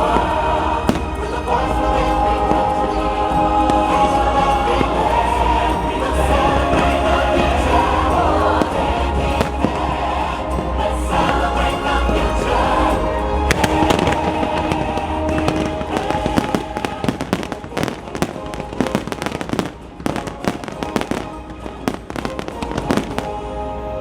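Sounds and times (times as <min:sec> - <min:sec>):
fireworks cracking and popping: 0:00.0 - 0:03.0, 0:03.6 - 0:12.4, 0:13.5 - 0:23.5
fireworks bursting: 0:00.0 - 0:23.7
music with held chords: 0:00.0 - 0:24.0.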